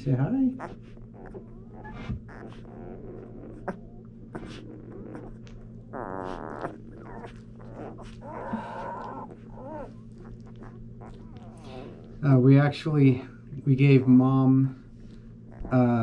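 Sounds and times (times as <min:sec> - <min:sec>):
puppies whining: 0:00.0 - 0:13.1, 0:13.7 - 0:16.0
steady low hum: 0:00.0 - 0:16.0.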